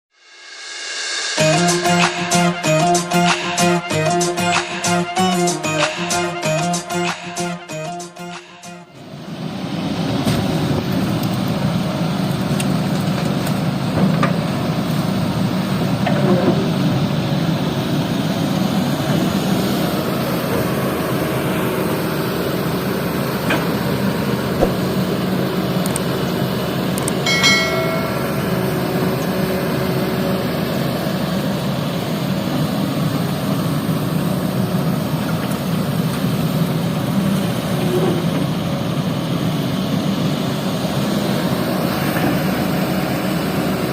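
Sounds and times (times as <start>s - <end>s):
excavator diesel engine running: 8.6s - 43.9s.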